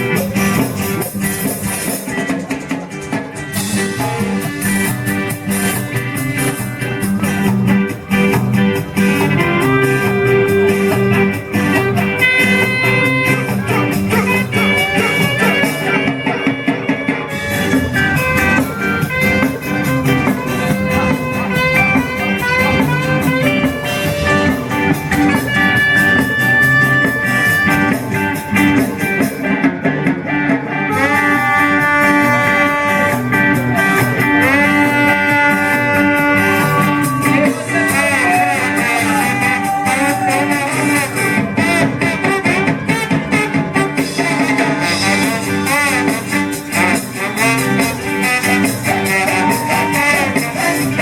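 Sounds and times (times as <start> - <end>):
ska band music with horns: 0.0 - 51.0.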